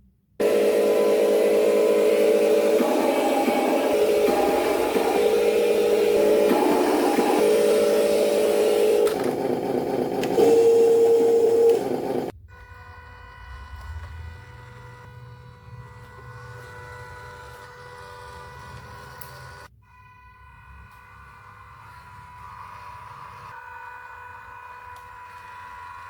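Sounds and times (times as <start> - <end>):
toy truck motor whining: 0.4 - 26.0.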